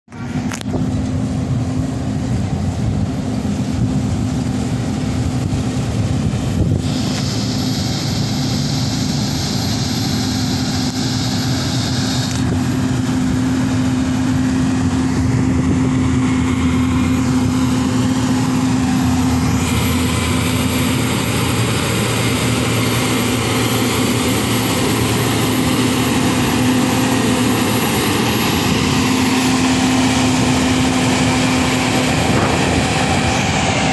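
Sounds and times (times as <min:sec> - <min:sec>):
motor grader diesel engine running: 0:00.1 - 0:33.9.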